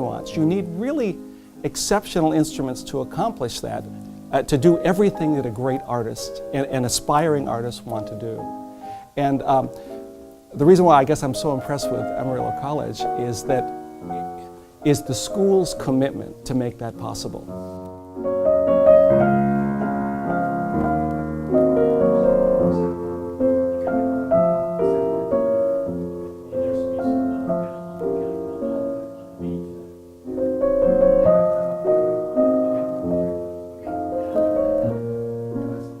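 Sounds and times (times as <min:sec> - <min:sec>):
solo piano playing: 0:00.0 - 0:36.0.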